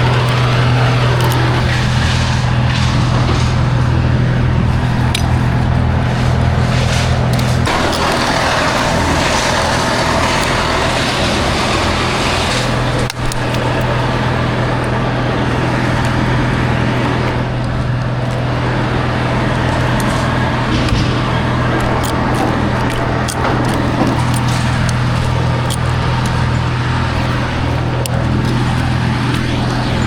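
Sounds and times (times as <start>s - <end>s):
large engine running steadily: 0.0s - 30.0s.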